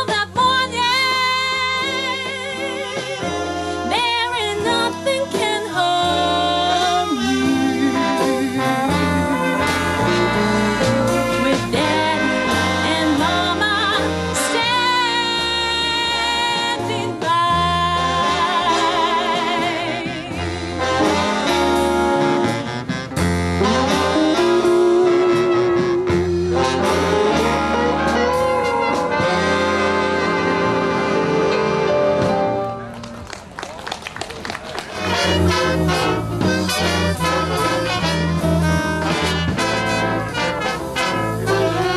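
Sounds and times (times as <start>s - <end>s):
brass and saxophone melody: 0.0s - 34.0s, 34.6s - 41.9s
walking bass: 0.0s - 41.9s.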